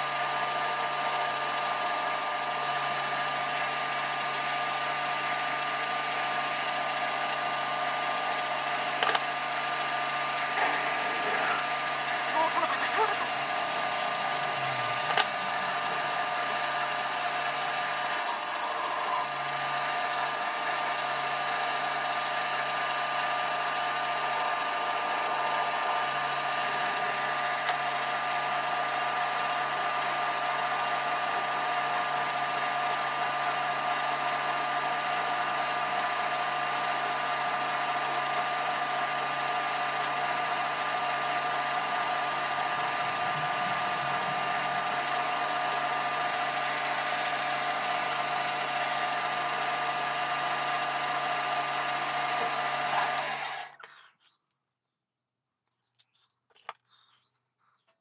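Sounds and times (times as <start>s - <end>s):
metal lathe motor and gear whine: 0.0s - 53.7s.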